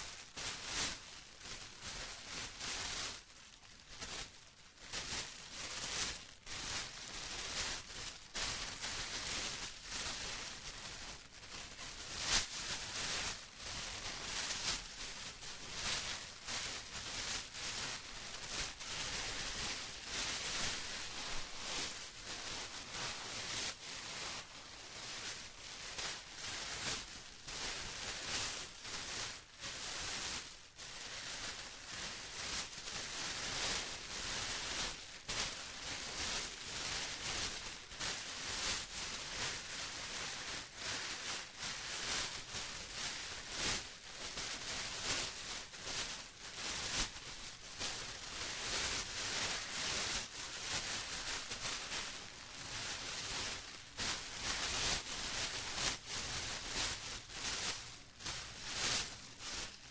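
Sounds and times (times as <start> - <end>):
plastic crinkling: 0.2 - 59.9.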